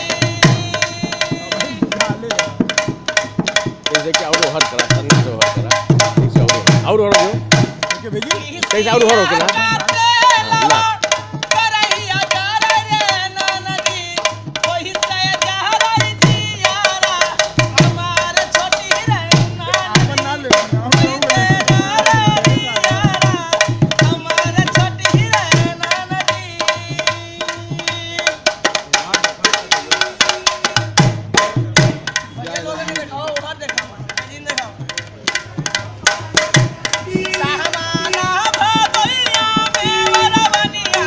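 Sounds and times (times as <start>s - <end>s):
dholak drum rhythm: 0.0s - 41.0s.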